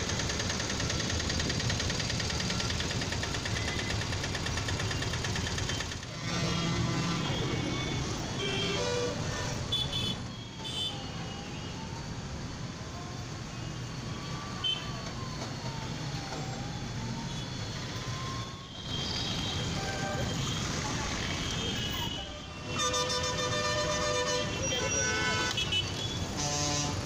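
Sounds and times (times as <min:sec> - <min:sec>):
distant siren wailing: 0:00.0 - 0:09.6, 0:10.5 - 0:25.5
city road traffic: 0:00.0 - 0:27.0.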